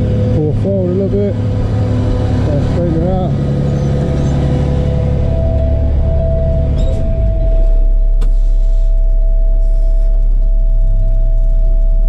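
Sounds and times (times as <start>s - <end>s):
engine whine: 0.0s - 12.0s
tow truck engine rumbling: 0.0s - 12.0s.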